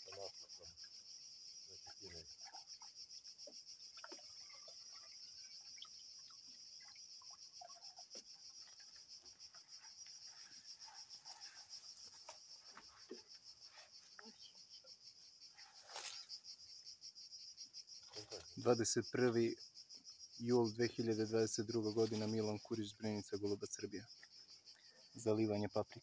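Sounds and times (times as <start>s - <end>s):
faint ticks and rustles: 0.0s - 26.0s
insects chirring: 0.0s - 26.0s.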